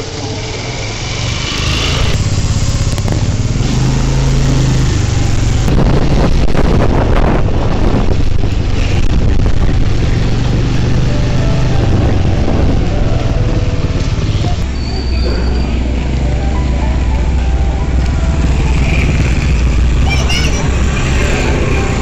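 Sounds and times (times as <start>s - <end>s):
motor scooter engine running: 0.0s - 5.8s, 7.6s - 22.0s
rushing air noise: 0.4s - 22.0s.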